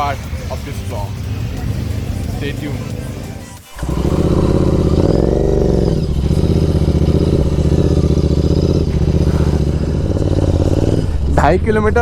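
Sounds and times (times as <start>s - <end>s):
motorcycle engine with loud exhaust: 0.0s - 12.0s.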